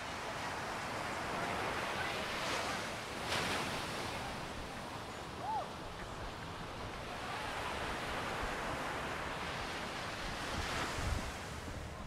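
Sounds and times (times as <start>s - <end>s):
sea waves washing on beach: 0.0s - 12.0s.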